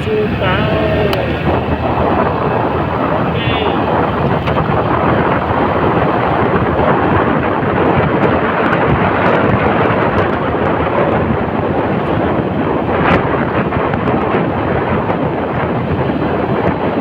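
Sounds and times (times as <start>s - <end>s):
motorcycle road and engine noise: 0.0s - 17.0s
wind buffeting microphone: 0.0s - 17.0s.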